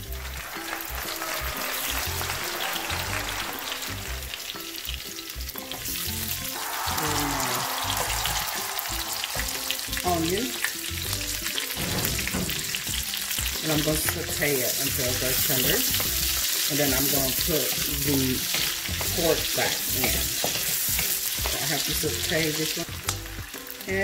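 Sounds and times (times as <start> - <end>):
garlic and onion sizzling in wok: 0.0 - 24.0.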